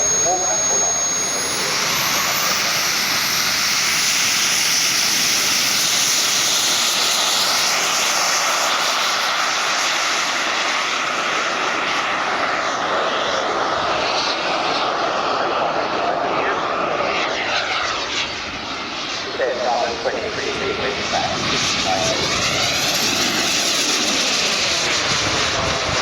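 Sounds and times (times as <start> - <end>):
model jet engine whining: 0.0 - 26.0.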